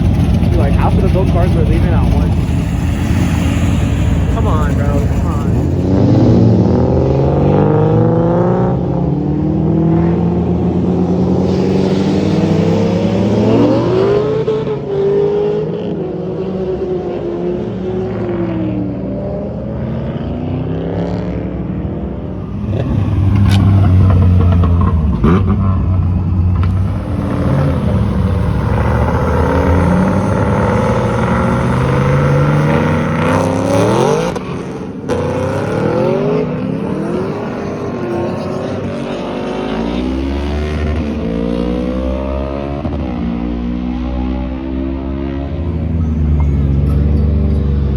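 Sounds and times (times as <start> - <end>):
cars accelerating hard: 0.0 - 47.9.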